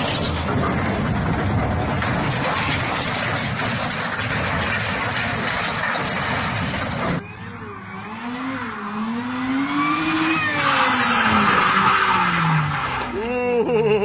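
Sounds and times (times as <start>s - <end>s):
tyres skidding: 0.0s - 13.8s
car engine revving: 0.1s - 13.2s.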